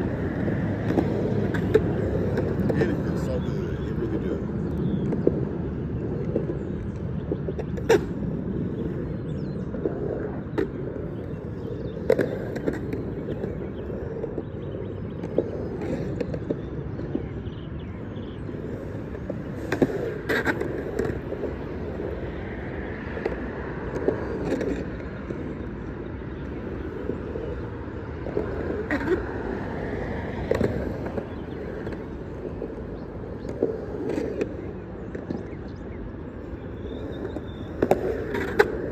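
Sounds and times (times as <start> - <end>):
skateboard clacks: 0.0 - 38.9
skateboard wheels rumbling: 0.0 - 38.9.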